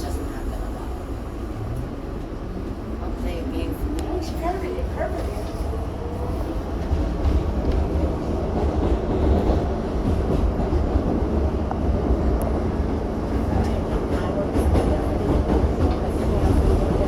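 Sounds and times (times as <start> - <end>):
subway wheels rumbling on track: 0.0 - 17.0.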